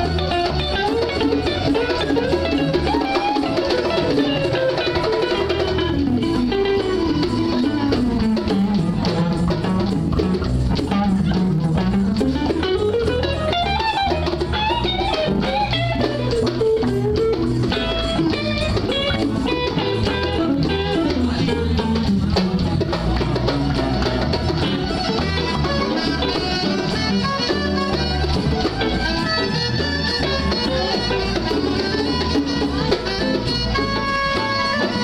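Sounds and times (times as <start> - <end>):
electric guitar: 0.0 - 35.0
live jazz band: 0.0 - 35.0.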